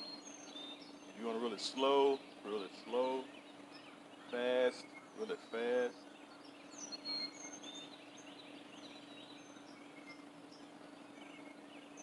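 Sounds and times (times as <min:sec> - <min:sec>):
high bird chirps: 0:00.0 - 0:12.0
steady low hum: 0:00.0 - 0:12.0.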